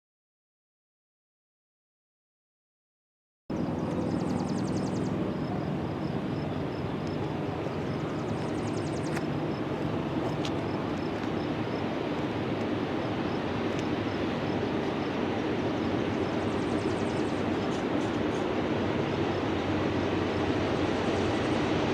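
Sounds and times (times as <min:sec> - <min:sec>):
diesel locomotives rumbling: 0:03.5 - 0:21.9.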